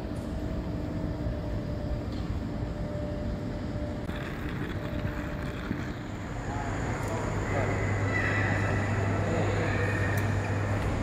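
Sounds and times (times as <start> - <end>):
airport terminal rumble and hiss: 0.0 - 11.0
faint hum: 0.0 - 11.0.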